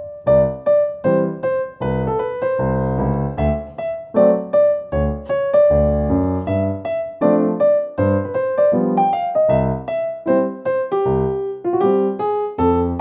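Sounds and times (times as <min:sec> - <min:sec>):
light piano melody: 0:00.0 - 0:13.0.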